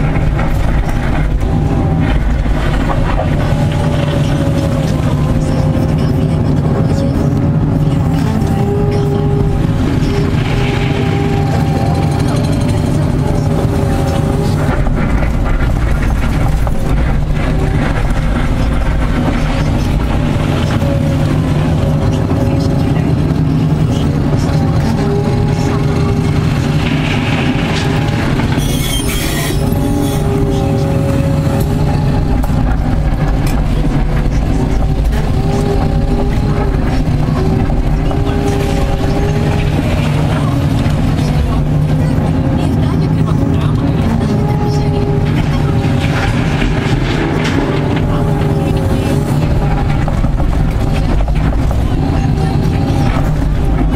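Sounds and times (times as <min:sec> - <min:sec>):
excavator diesel engine running: 0:00.0 - 0:53.9
hydraulic whine: 0:00.0 - 0:53.9.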